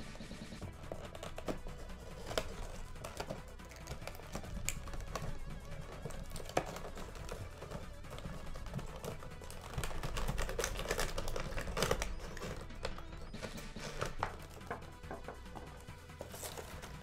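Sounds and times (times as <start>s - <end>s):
background music: 0.0s - 17.0s
blister package being cut open: 0.6s - 17.0s.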